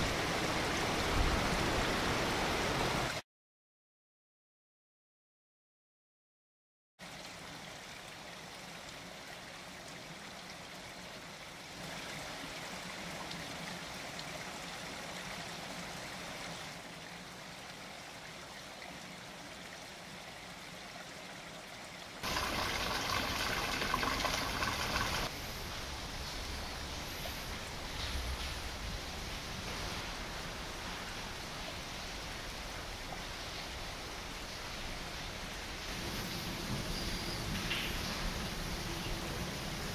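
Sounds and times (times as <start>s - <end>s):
stream water rushing: 0.0s - 3.2s, 7.0s - 39.9s.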